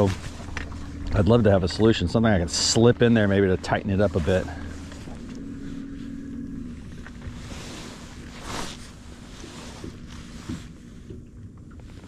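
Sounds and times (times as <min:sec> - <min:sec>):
low rumble: 0:00.0 - 0:12.0
steady low hum: 0:00.0 - 0:12.0.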